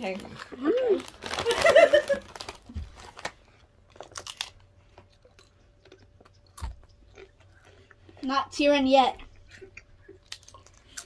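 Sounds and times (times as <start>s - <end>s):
chewing crunchy chips: 0.0s - 8.3s, 9.2s - 11.0s.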